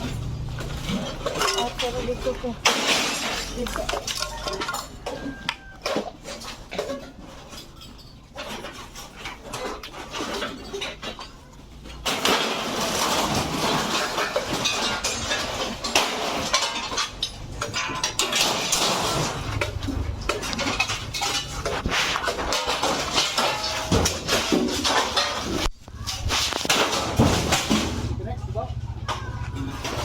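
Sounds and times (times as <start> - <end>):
metallic clattering and clinking: 0.0 - 30.0.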